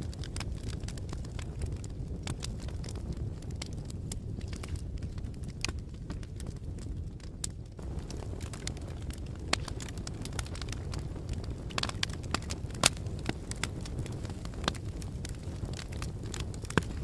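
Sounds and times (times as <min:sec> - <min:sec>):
wind blowing: 0:00.0 - 0:17.0
wood fire crackling and popping: 0:00.0 - 0:17.0.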